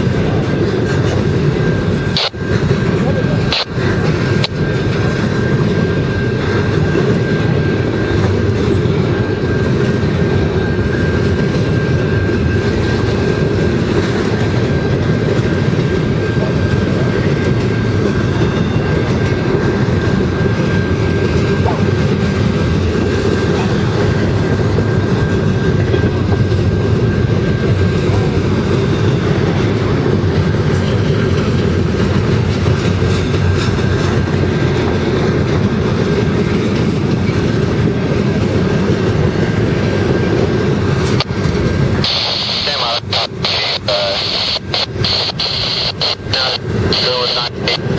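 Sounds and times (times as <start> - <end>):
clickety-clack over rail joints: 0.0 - 42.1
train wheels rumbling on rail: 0.0 - 47.9.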